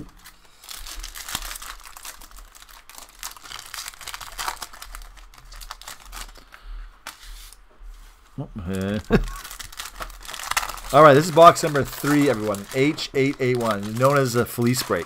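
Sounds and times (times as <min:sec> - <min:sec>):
card pack wrappers crinkling: 0:00.0 - 0:07.6, 0:08.6 - 0:15.0.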